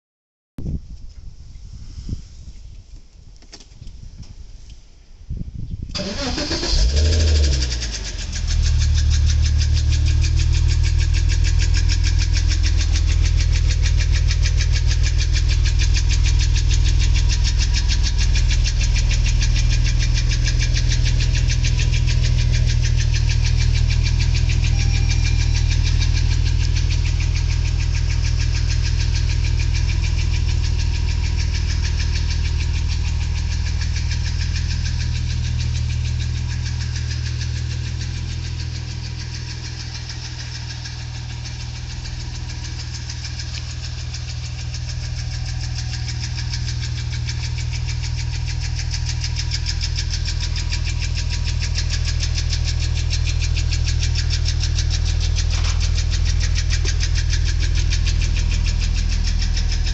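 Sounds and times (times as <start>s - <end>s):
car engine with ticking knock: 6.0s - 59.9s.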